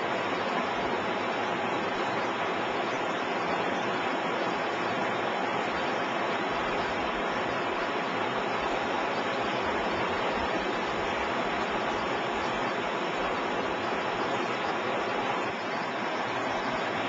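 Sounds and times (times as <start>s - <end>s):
river rushing over shallows: 0.0s - 17.0s.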